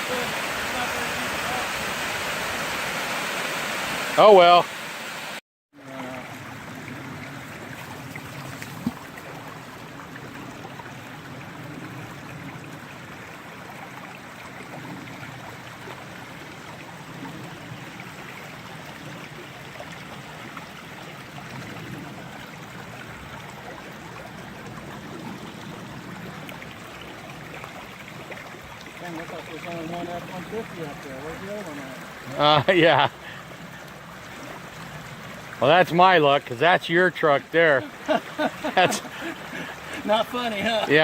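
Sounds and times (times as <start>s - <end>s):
stream water flowing: 0.0s - 41.0s.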